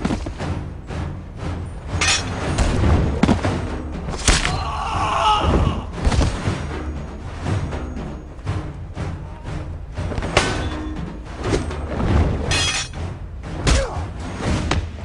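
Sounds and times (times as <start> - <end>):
dramatic film music: 0.0 - 15.0.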